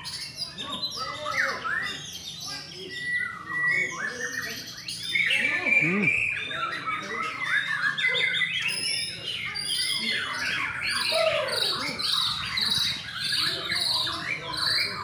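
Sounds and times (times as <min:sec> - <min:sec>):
songbirds whistling and chirping: 0:00.0 - 0:15.0.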